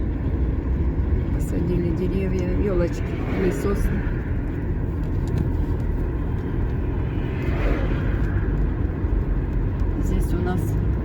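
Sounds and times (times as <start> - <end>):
car engine rumble: 0.0 - 11.0
tyre road noise: 0.0 - 11.0.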